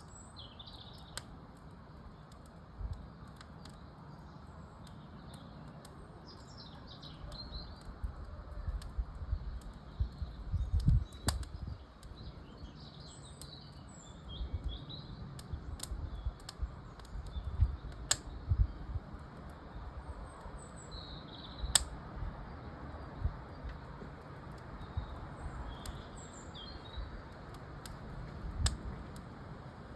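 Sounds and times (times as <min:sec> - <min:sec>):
small birds chirping: 0:00.0 - 0:27.6
wood fire crackling: 0:00.0 - 0:29.9.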